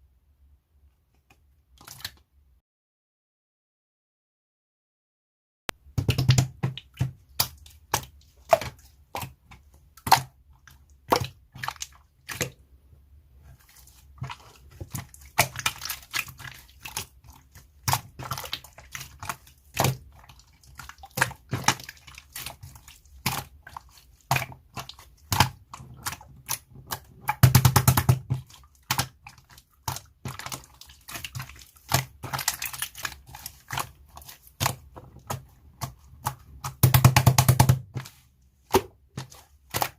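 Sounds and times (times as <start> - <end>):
slime squelching and popping: 5.8 - 12.7, 13.4 - 39.9.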